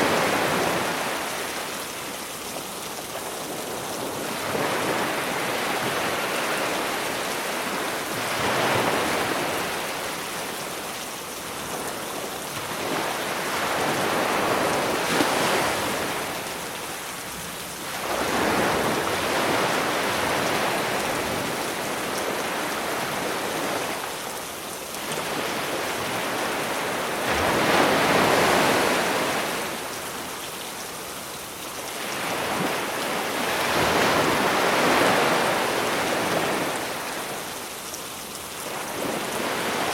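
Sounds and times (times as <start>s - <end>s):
rain hiss: 0.0s - 39.9s
sea waves washing onto beach: 0.0s - 39.9s.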